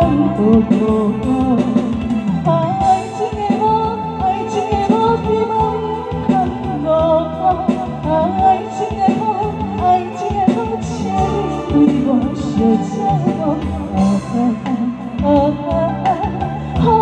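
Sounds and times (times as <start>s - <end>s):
bass and drum accompaniment: 0.0s - 17.0s
woman singing into microphone: 0.0s - 17.0s.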